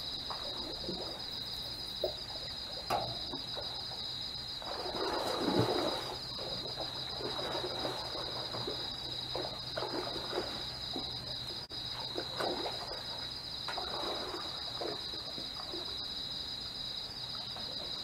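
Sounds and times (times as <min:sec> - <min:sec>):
faint low hum: 0:00.0 - 0:16.7
night insects trilling: 0:00.0 - 0:18.0.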